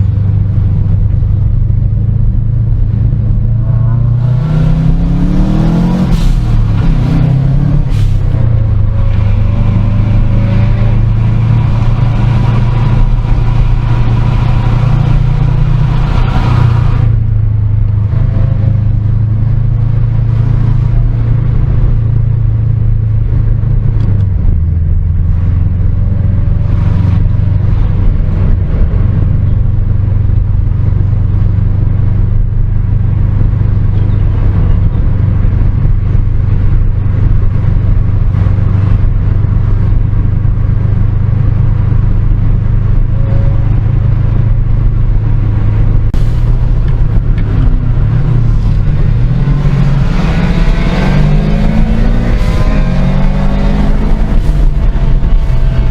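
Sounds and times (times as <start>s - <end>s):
car engine deep drone: 0.0s - 55.9s
high rushing noise: 1.9s - 32.6s, 33.4s - 55.9s.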